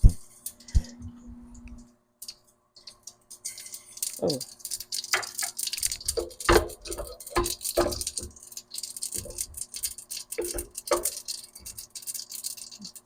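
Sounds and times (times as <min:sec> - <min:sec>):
mustard seeds popping in oil: 0:02.2 - 0:13.0
oil sizzling: 0:02.2 - 0:13.0.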